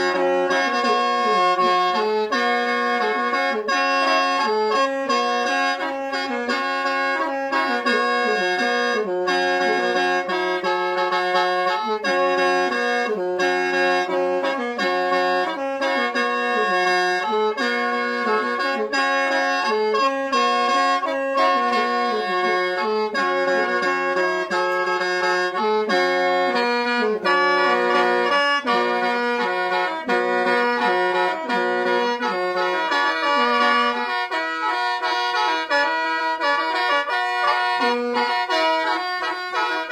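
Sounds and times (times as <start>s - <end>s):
mouth organ melody with drone: 0.0s - 39.9s.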